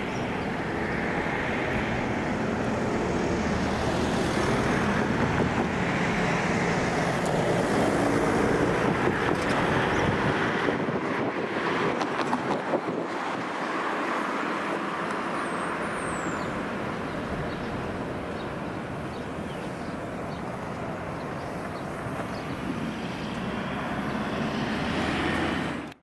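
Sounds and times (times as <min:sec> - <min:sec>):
wind on microphone: 0:00.0 - 0:25.9
road traffic: 0:00.0 - 0:26.0.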